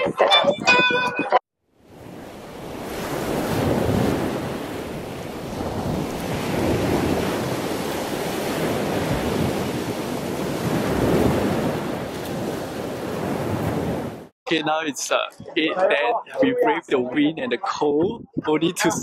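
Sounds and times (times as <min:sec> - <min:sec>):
wind blowing across microphone: 0:00.0 - 0:14.3, 0:17.2 - 0:19.0.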